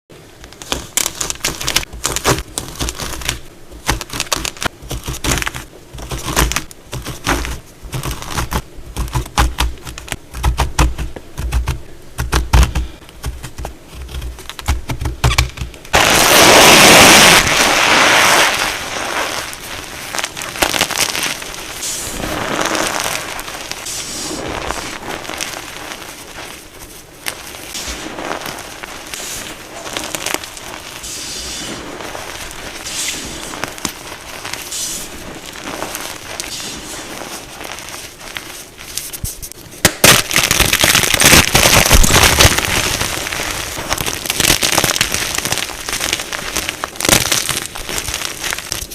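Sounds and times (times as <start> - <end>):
chalk crunching and crumbling: 0.5 - 48.9.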